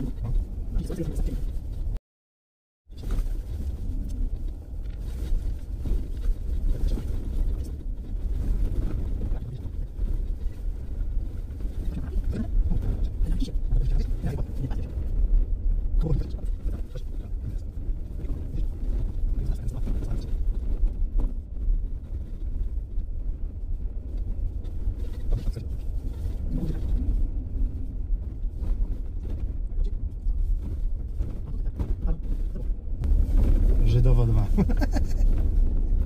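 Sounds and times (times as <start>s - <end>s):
road rumble: 0.0s - 2.0s, 2.9s - 36.0s
off-road vehicle engine: 2.9s - 36.0s.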